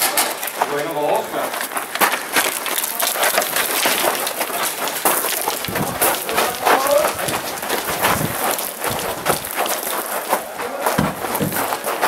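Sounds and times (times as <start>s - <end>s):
footsteps on gravel: 0.0s - 12.0s
gear rustling: 1.7s - 12.0s.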